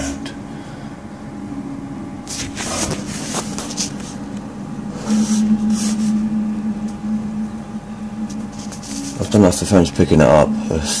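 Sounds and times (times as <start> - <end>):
steady low-pitched hum: 0.0 - 11.0.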